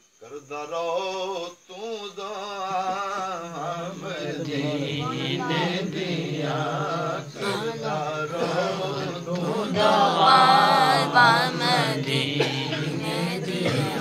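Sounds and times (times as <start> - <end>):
man chanting unaccompanied: 0.2 - 14.0.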